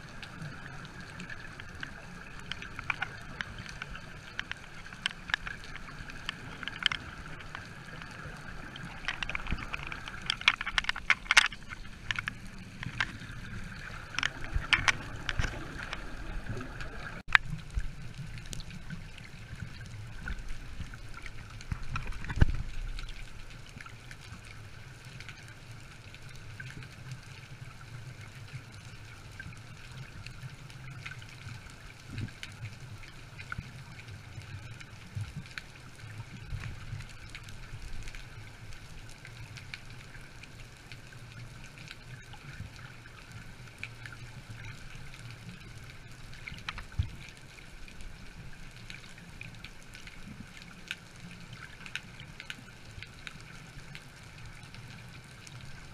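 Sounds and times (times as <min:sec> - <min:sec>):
small clicks: 0:00.1 - 0:55.9.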